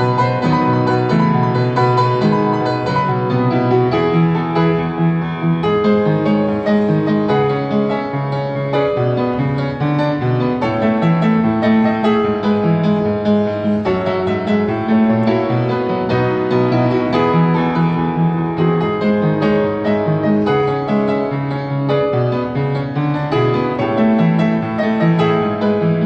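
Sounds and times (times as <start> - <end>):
upright piano playing: 0.0 - 26.0.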